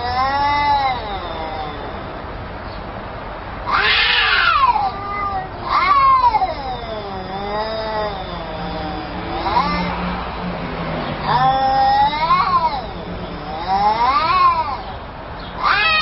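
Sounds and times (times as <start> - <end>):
cat yowling: 0.0 - 2.3, 3.6 - 10.2, 11.2 - 14.9, 15.6 - 16.0.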